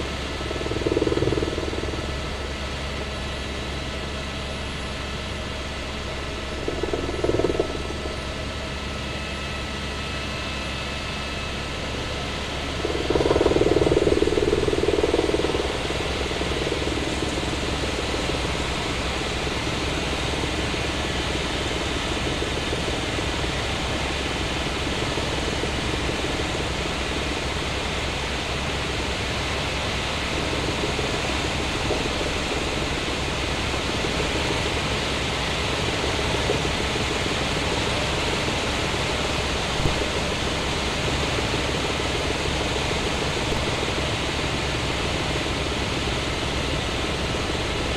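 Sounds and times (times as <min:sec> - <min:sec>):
helicopter cabin drone: 0:00.0 - 0:47.9.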